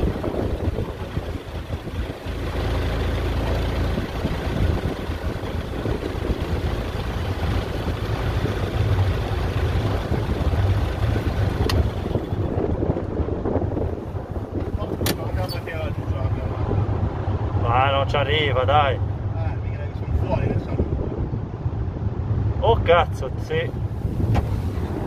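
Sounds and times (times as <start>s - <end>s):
low rumble of ship machinery: 0.0s - 25.0s.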